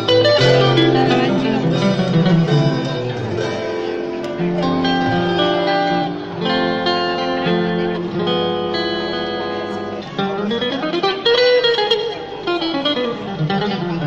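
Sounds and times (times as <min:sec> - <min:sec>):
acoustic guitar: 0:00.0 - 0:14.0
electric guitar: 0:00.0 - 0:14.0.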